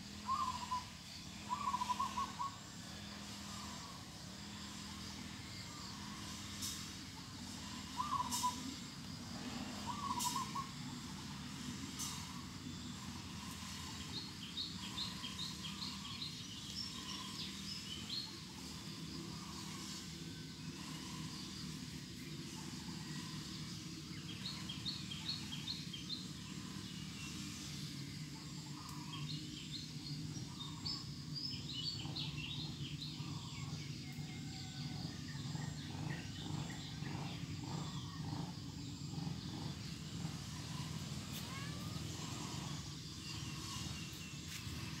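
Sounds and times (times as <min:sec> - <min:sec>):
low outdoor background noise: 0:00.0 - 0:45.0
small birds chirping: 0:00.0 - 0:45.0.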